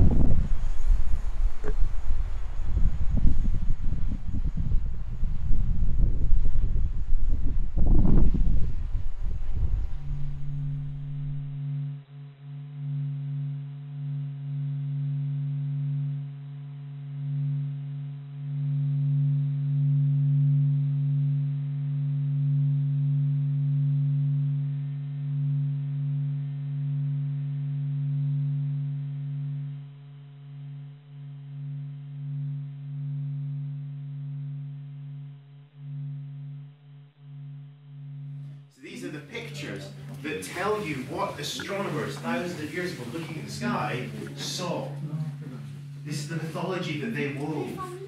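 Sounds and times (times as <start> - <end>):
low droning tone: 0.0 - 48.0.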